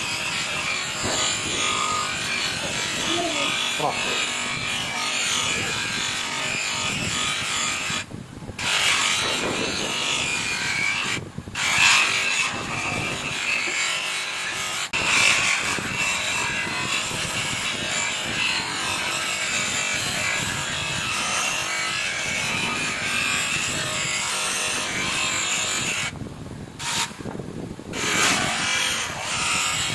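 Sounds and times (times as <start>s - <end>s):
power tool polishing metal: 0.0s - 26.1s, 27.9s - 29.9s.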